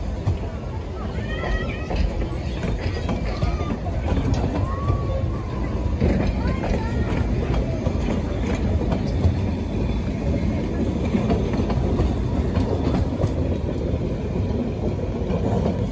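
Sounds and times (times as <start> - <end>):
railway carriages rumbling on track: 0.0 - 15.9.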